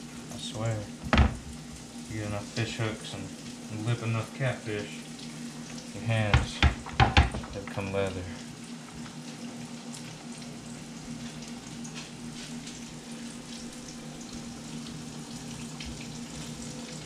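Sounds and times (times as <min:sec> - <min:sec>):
fish balls frying in oil: 0:00.0 - 0:17.0.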